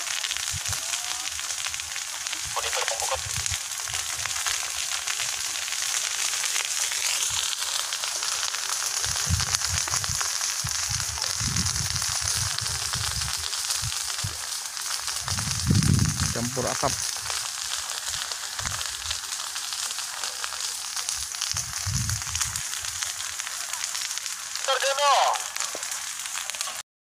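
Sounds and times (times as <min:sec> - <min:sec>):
fire crackling: 0:00.0 - 0:26.8.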